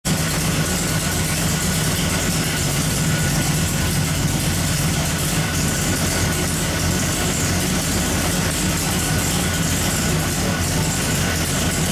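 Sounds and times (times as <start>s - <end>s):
engine idling: 0.0s - 11.9s.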